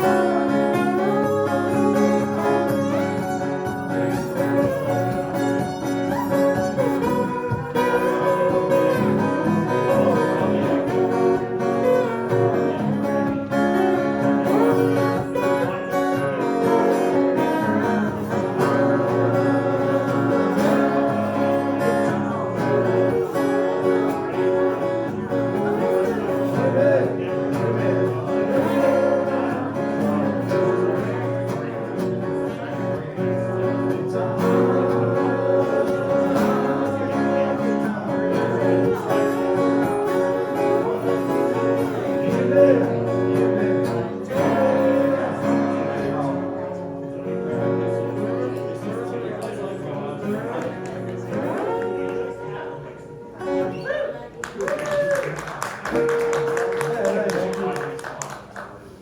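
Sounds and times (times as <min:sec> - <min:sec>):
strummed acoustic guitar music: 0:00.0 - 0:54.6, 0:55.2 - 0:59.0.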